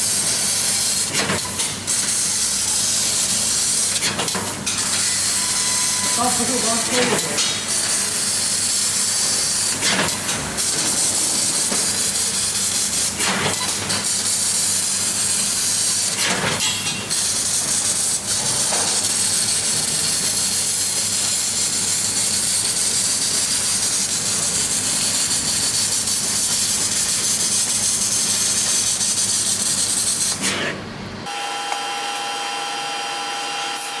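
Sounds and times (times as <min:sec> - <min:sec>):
laser cutter gas hiss: 0:00.0 - 0:30.8.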